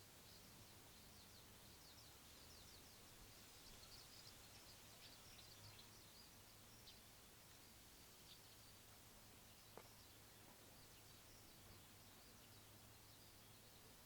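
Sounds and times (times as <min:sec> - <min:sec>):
low outdoor hum and hiss: 0:00.0 - 0:14.0
small birds twittering: 0:00.0 - 0:14.0.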